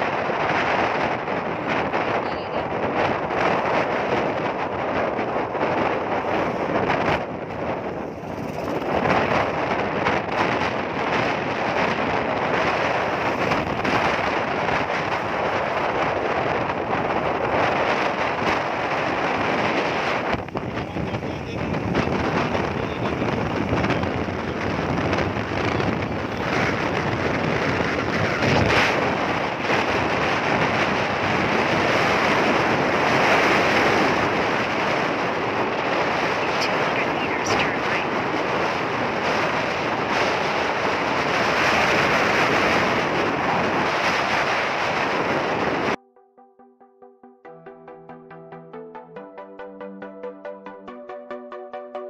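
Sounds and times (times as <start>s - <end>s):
vehicle and road noise: 0.0s - 46.0s
wind buffeting microphone: 0.0s - 46.0s.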